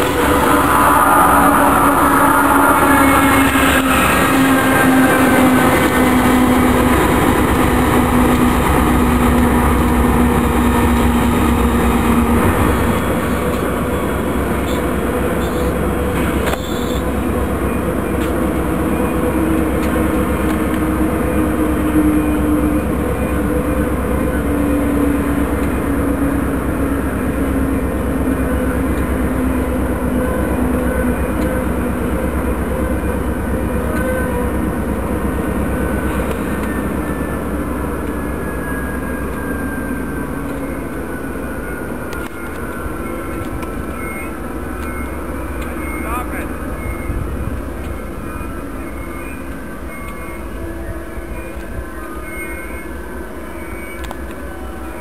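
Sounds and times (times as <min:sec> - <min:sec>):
diesel locomotive engine drone: 0:00.0 - 0:55.0
freight cars rumbling on rails: 0:00.0 - 0:55.0.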